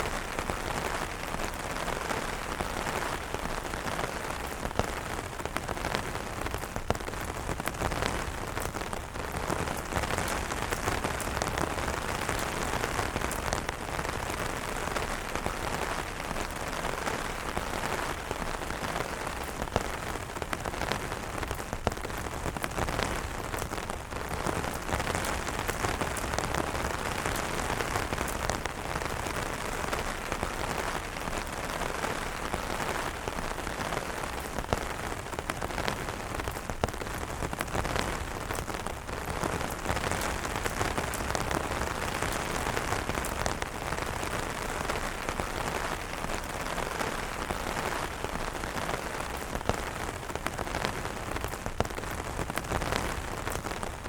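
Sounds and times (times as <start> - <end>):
rain pattering on umbrella: 0.0 - 54.0.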